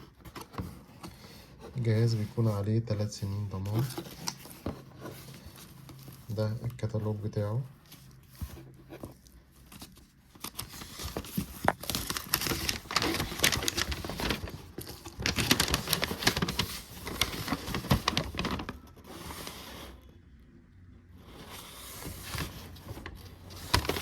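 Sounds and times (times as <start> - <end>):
paper and packaging rustling: 0.0 - 20.0, 21.2 - 24.0.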